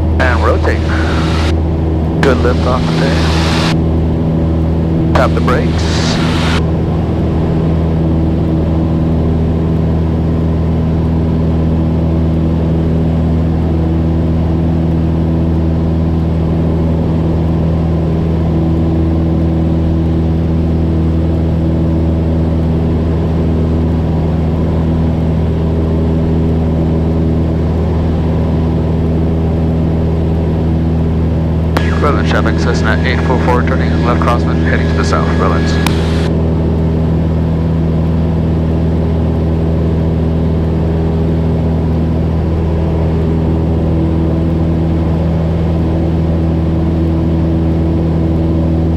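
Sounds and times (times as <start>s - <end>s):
light aircraft engine droning: 0.0s - 48.9s.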